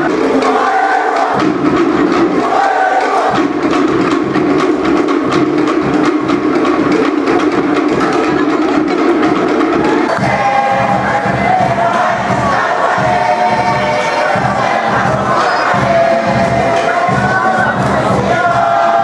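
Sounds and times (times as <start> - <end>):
people singing: 0.0 - 5.1, 6.0 - 19.0
fast slit log drumming: 0.0 - 19.0.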